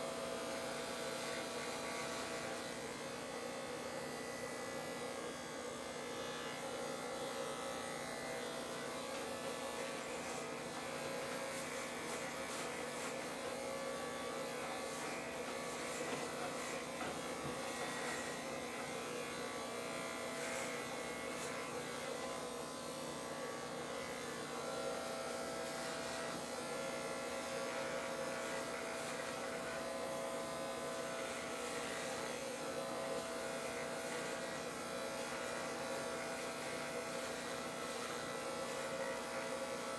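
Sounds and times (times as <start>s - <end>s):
hair clippers buzzing: 0.0s - 39.9s.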